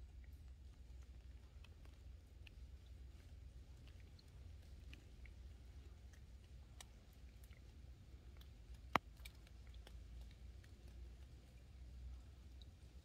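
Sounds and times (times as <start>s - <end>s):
low steady rumble: 0.0s - 13.0s
water dripping: 0.0s - 13.0s.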